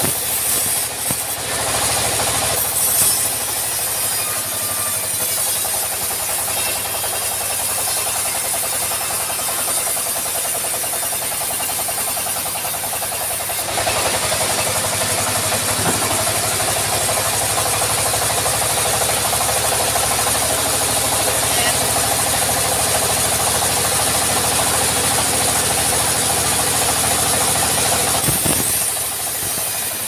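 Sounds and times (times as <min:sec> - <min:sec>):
band sawmill sawing log: 0:00.0 - 0:30.0.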